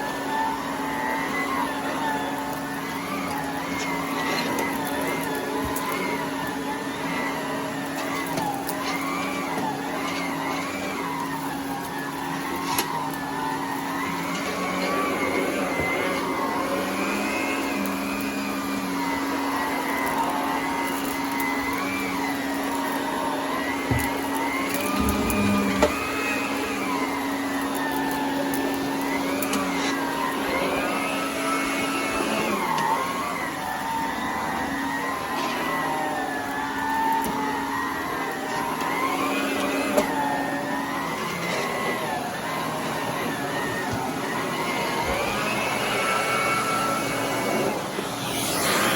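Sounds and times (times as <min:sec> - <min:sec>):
vacuum cleaner motor hum and whine: 0:00.0 - 0:48.9.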